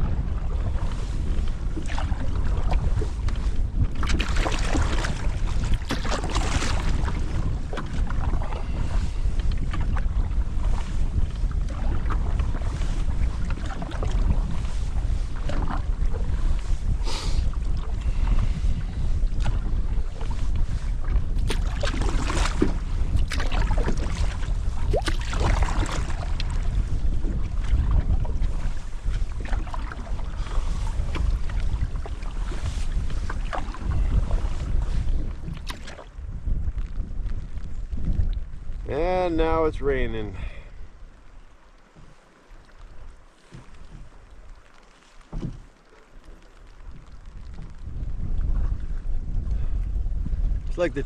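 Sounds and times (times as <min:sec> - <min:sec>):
wind buffeting microphone: 0:00.0 - 0:51.0
water splashing from paddle: 0:00.3 - 0:36.2, 0:40.9 - 0:48.9.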